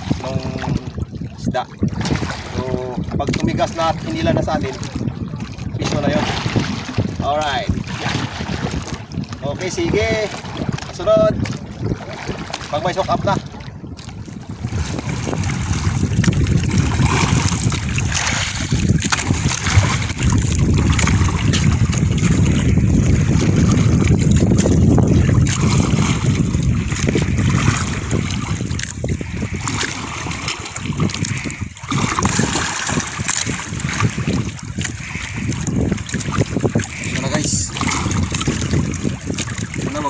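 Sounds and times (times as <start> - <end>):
choppy water sloshing: 0.0 - 40.0
wind buffeting microphone: 0.0 - 40.0.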